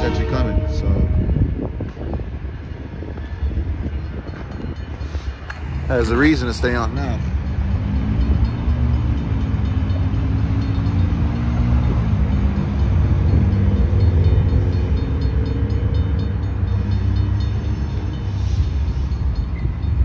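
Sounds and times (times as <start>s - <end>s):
crossing bell ringing faintly: 0.0s - 2.2s, 3.3s - 20.0s
diesel locomotive engine rumbling: 0.0s - 20.0s.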